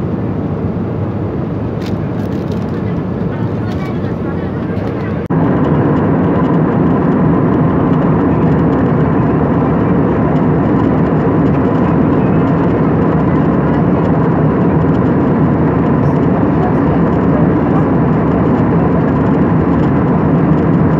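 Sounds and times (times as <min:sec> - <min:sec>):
jet engine and airflow rumble: 0:00.0 - 0:20.9.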